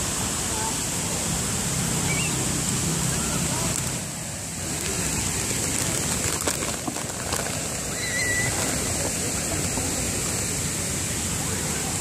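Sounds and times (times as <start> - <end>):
fountain water spraying: 0.0 - 12.0.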